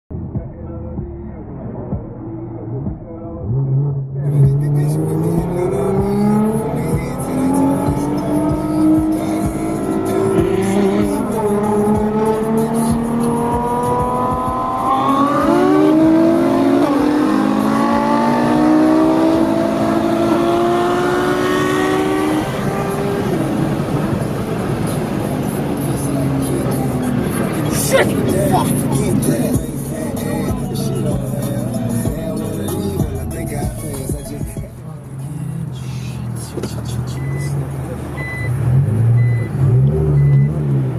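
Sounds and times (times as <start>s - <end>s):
car engine accelerating through gears: 0.8s - 34.2s, 35.1s - 40.9s.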